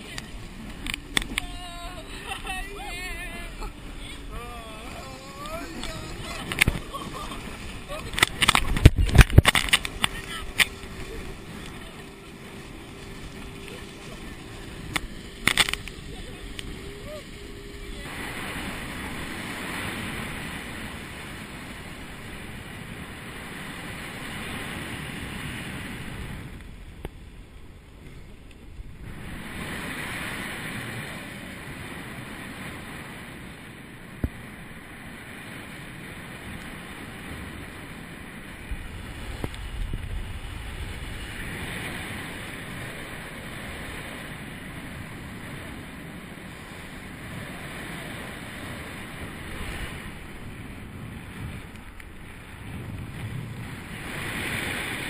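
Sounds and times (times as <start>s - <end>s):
wind rushing over microphone: 0.0s - 27.9s, 28.6s - 55.0s
low wind buffeting: 0.0s - 55.0s.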